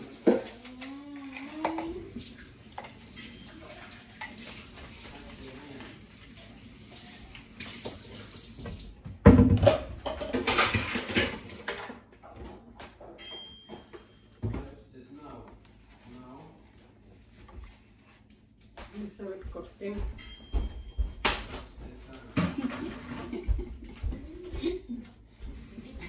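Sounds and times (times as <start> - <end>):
kitchen items rustling and clattering: 0.0 - 26.0.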